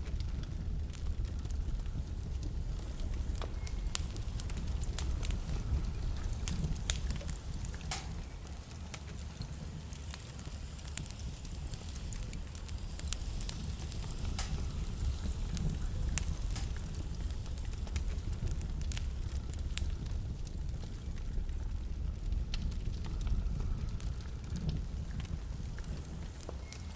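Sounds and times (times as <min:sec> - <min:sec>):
fire crackling and popping: 0:00.0 - 0:26.9
low rumble of flame: 0:00.0 - 0:26.9.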